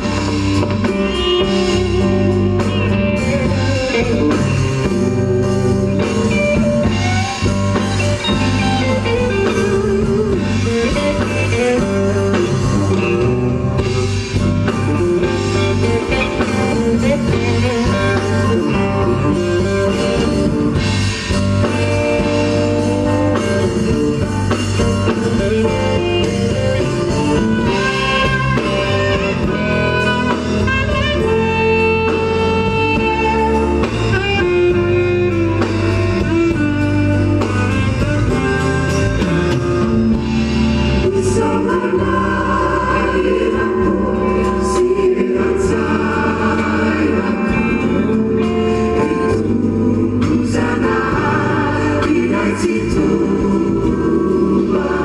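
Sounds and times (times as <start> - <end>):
drums: 0.0 - 55.0
guitar: 0.0 - 55.0
steady bass line: 0.0 - 55.0.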